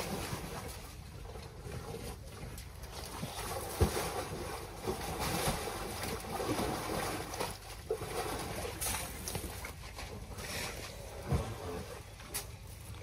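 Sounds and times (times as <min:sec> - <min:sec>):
mud squelching and sloshing: 0:00.0 - 0:13.0.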